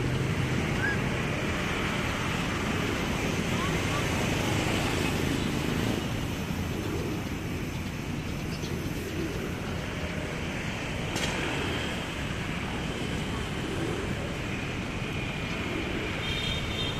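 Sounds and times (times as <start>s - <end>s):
city traffic rumble: 0.0s - 16.9s.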